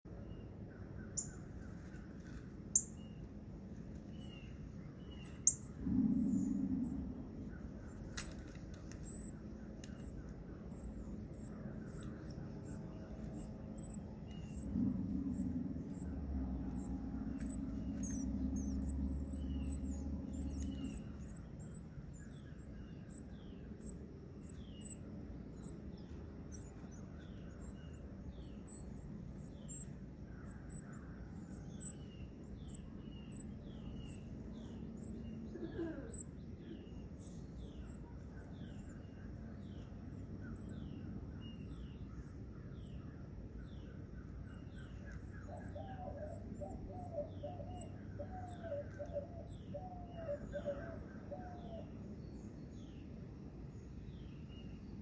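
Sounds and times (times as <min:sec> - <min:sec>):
low steady hum: 0:00.1 - 0:55.0
high bird chirps: 0:02.8 - 0:53.0
downward-slurred bird calls: 0:03.8 - 0:25.8, 0:26.5 - 0:52.4.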